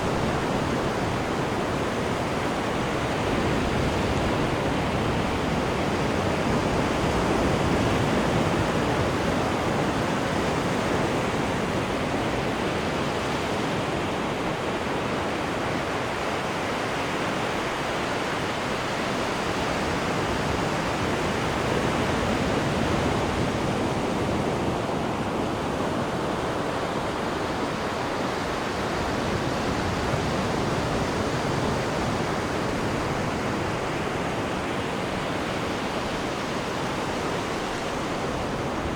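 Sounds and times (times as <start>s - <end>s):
water rushing in ship's wake: 0.0s - 38.9s.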